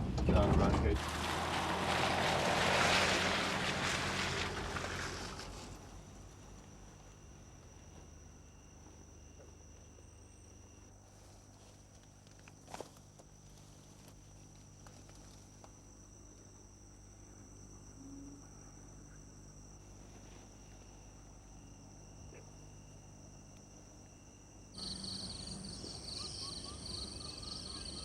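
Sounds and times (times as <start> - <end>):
crickets and insects chirring: 0.3 - 28.0
low background hum: 3.6 - 28.0.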